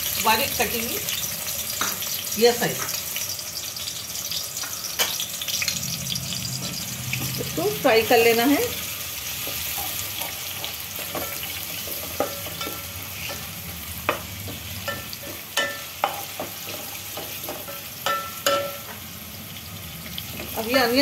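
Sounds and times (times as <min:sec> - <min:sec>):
onion sizzling in oil: 0:00.0 - 0:21.0.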